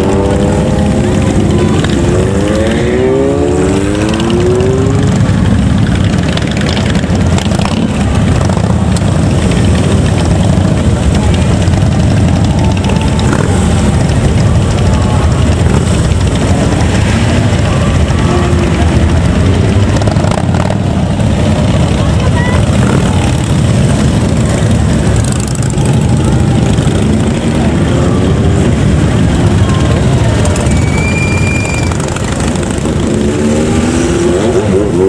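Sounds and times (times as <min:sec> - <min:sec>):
motorcycle engine revving: 0:00.0 - 0:35.0
motorcycles idling: 0:00.0 - 0:35.0.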